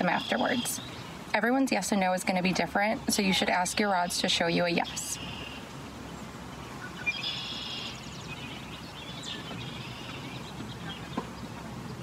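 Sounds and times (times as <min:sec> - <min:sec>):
birds chirping: 0:00.0 - 0:12.0
low background noise: 0:00.0 - 0:12.0.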